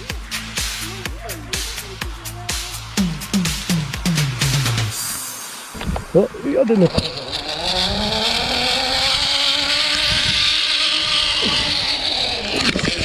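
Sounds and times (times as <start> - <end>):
motor engine running: 0.0 - 5.0, 5.8 - 13.0.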